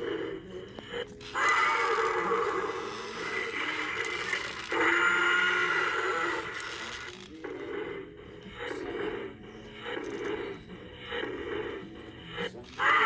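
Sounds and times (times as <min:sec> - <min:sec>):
toy dinosaur roar: 0:01.2 - 0:11.8, 0:12.7 - 0:13.0.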